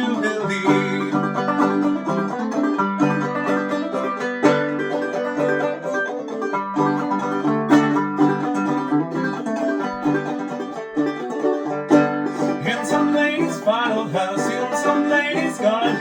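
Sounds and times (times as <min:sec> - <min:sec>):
banjo played clawhammer style: 0:00.0 - 0:16.0.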